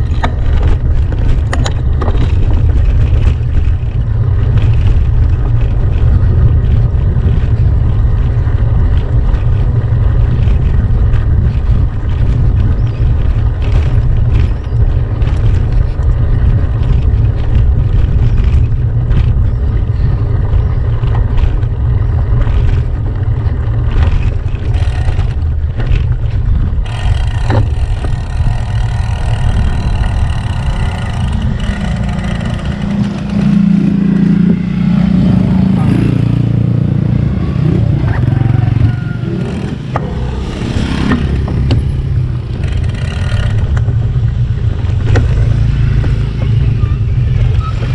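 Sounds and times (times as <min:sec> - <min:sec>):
bike rattling over rough ground: 0:00.0 - 0:35.2, 0:37.6 - 0:47.9
motorcycle engine humming: 0:00.0 - 0:47.9
wind buffeting microphone: 0:00.0 - 0:47.9.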